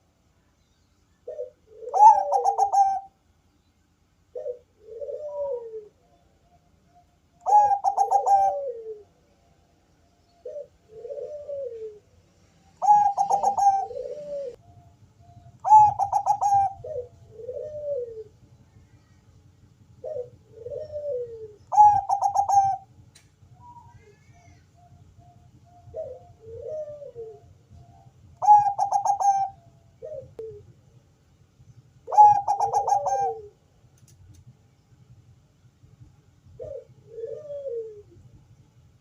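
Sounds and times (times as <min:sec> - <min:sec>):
dove cooing: 0:01.2 - 0:03.2, 0:04.3 - 0:09.5, 0:10.2 - 0:30.8, 0:31.6 - 0:33.8, 0:36.4 - 0:38.4.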